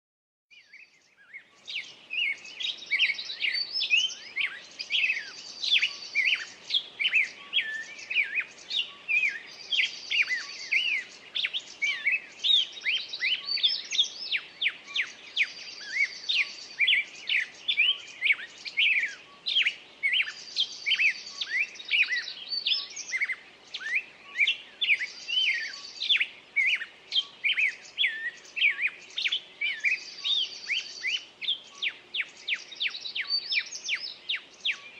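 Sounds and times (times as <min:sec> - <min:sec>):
songbird singing: 0:00.5 - 0:34.9.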